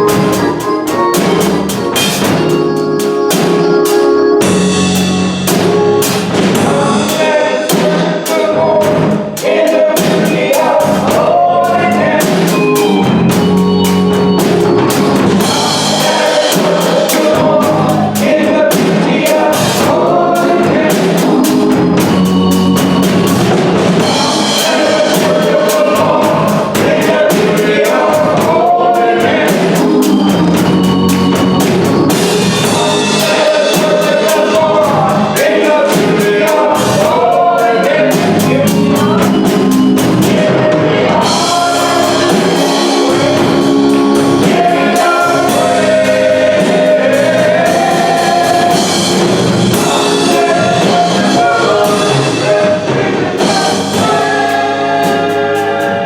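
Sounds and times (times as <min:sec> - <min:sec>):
band with drum kit: 0:00.0 - 0:56.0
voices singing gospel: 0:00.0 - 0:56.0.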